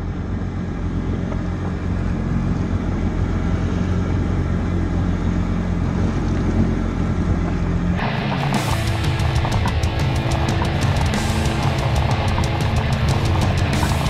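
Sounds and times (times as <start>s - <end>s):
jet ski engine droning: 0.0s - 14.0s.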